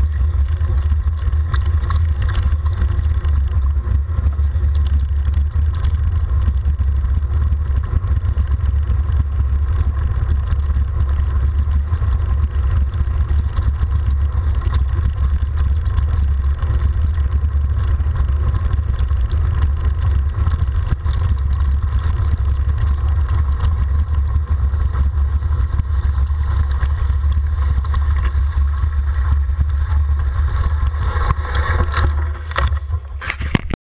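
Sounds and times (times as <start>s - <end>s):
tyres on gravel road: 0.0s - 33.8s.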